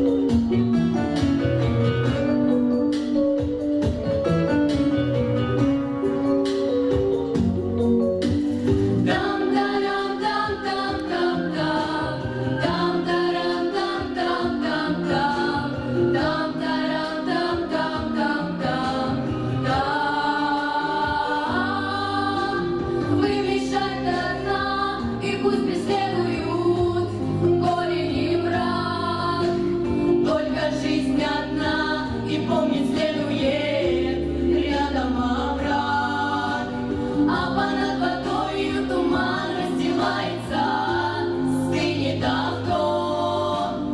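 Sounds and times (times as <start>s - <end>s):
vocal group singing in harmony: 8.4s - 43.9s.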